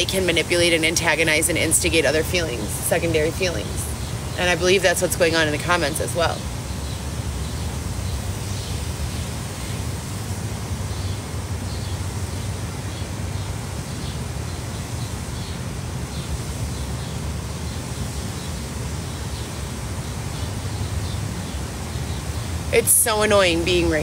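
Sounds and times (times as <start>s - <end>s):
even hiss: 0.0s - 24.0s.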